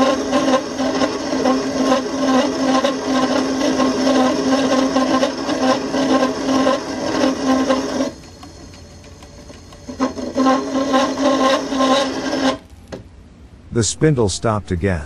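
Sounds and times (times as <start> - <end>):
lathe cutting steel: 0.0 - 12.6
spindle drive hum: 0.0 - 14.6.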